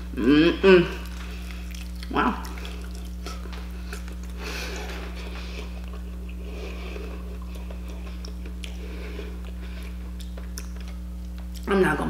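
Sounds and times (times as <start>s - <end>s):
steady low hum: 0.0s - 12.0s
person chewing: 0.8s - 11.7s.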